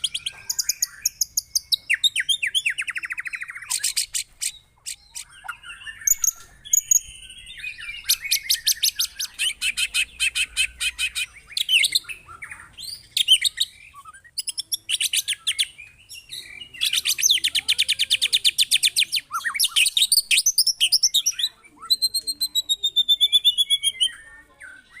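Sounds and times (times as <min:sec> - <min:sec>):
bird singing harsh fast notes: 0:00.0 - 0:25.0.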